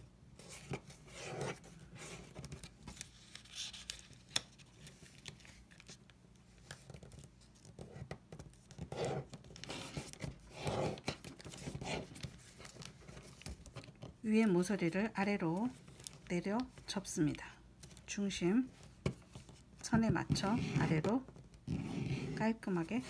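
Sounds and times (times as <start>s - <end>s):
paper rustling and crinkling: 0.4s - 14.2s, 15.5s - 21.2s.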